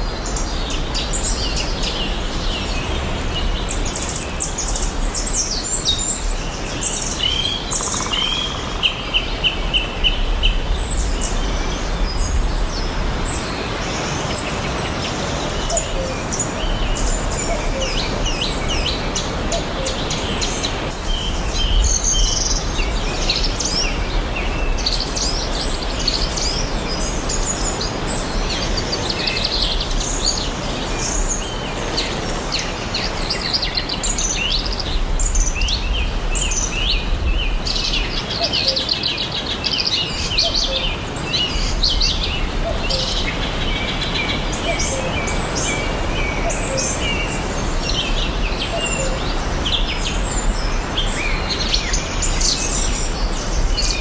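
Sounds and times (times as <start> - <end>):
birds chirping and singing: 0.1 - 54.0.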